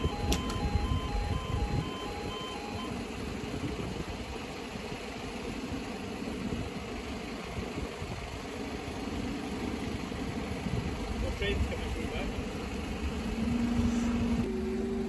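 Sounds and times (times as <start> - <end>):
road vehicles idling: 0.0 - 15.0.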